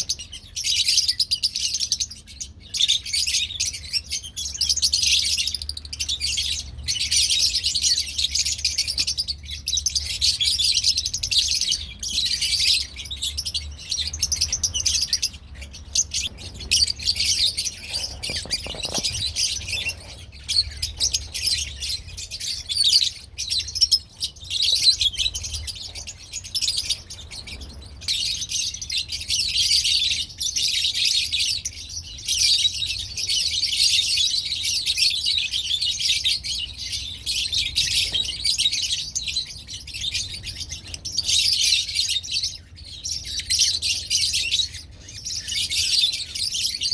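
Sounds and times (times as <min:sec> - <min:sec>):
lovebirds chirping: 0:00.0 - 0:46.9.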